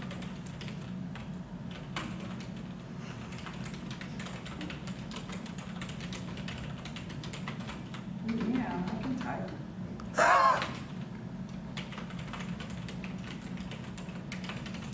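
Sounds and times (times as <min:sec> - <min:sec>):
computer keyboard typing: 0:00.0 - 0:09.6, 0:10.6 - 0:14.9
steady low hum: 0:00.0 - 0:14.9.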